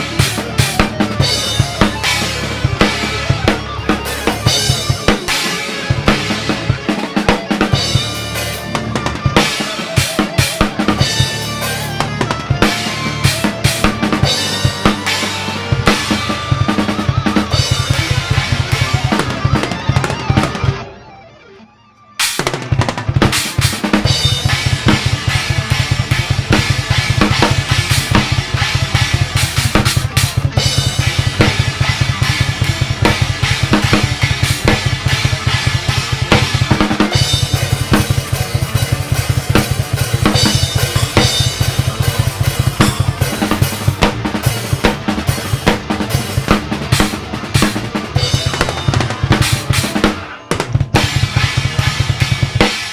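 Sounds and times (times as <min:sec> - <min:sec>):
drum kit played hard: 0:00.0 - 0:21.3, 0:22.2 - 0:52.9.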